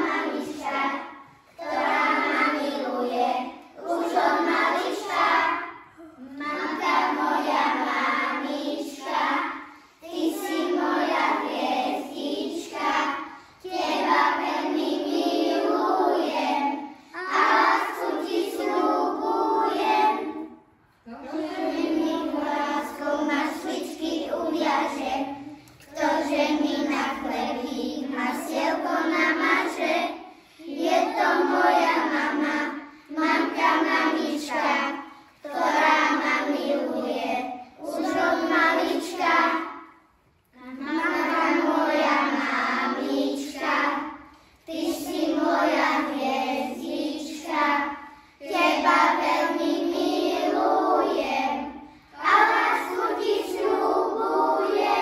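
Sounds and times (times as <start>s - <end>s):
children singing: 0.0s - 55.0s.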